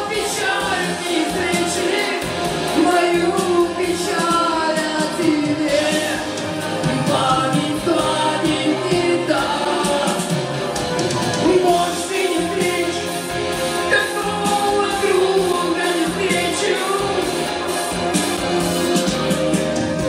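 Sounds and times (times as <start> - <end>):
man singing into a microphone: 0.0 - 10.6, 11.4 - 17.7
instrumental backing music: 0.0 - 20.0.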